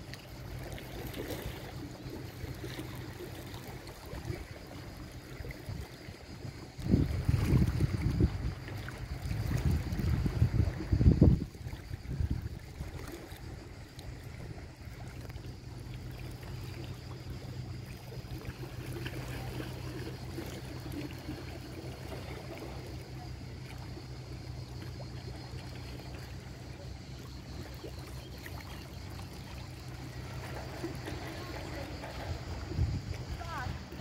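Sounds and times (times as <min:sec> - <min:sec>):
sea water splashing and trickling: 0:00.0 - 0:34.0.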